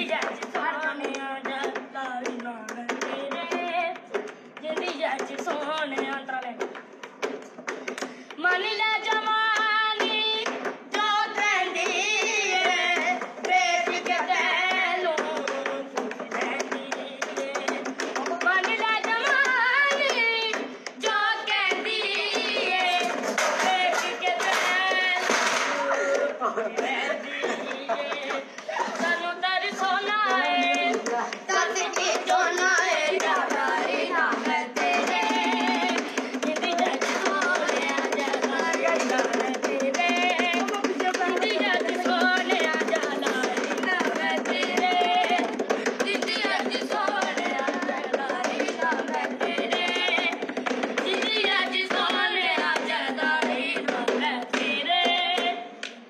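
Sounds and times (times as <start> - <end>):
boy singing: 0.0 - 6.7, 8.4 - 50.4, 51.0 - 55.8
hands drumming on wooden desk: 0.0 - 56.0.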